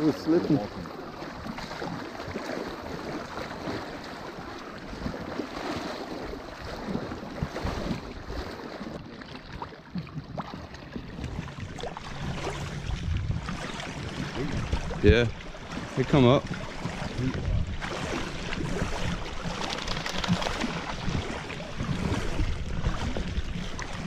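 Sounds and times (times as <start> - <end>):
water sloshing from wading: 0.0 - 24.0.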